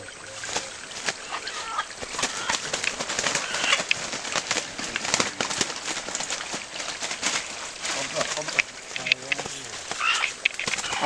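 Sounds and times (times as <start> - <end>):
dry leaves and twigs crackling: 0.0 - 11.0.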